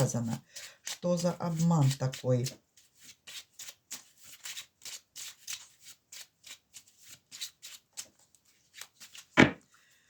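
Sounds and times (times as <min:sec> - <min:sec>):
cards shuffled by hand: 0:00.8 - 0:09.5.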